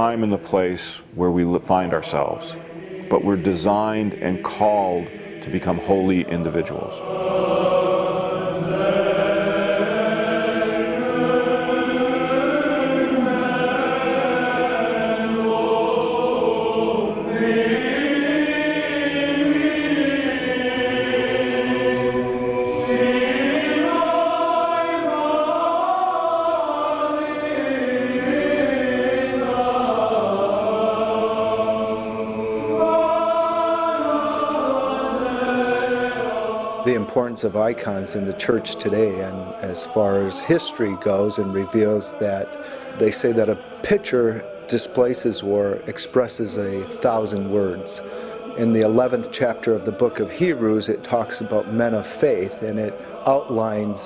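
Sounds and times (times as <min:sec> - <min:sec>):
choir singing a slow chant: 0:00.0 - 0:54.0.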